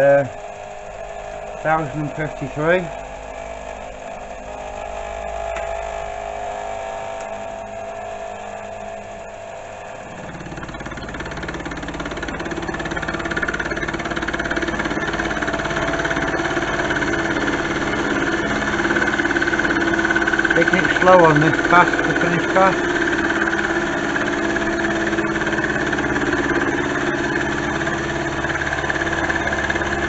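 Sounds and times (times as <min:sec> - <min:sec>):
milling machine cutting steel: 0:03.6 - 0:30.0.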